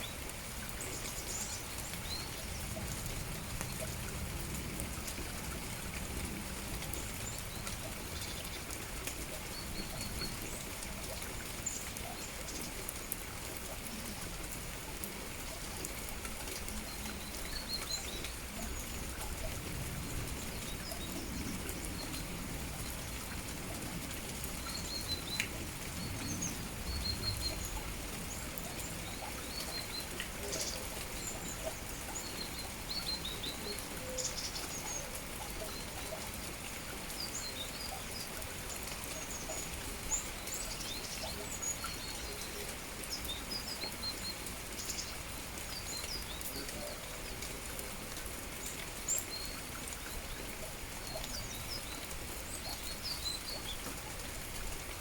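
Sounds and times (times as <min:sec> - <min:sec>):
songbirds chirping: 0:00.0 - 0:05.3, 0:15.1 - 0:55.0
steady rain falling: 0:00.0 - 0:55.0.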